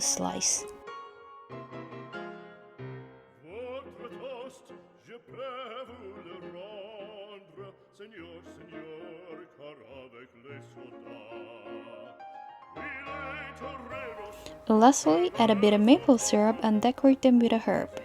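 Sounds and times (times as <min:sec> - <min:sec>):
classical instrumental music: 0:00.0 - 0:18.0
operatic singing with vibrato: 0:03.4 - 0:18.0.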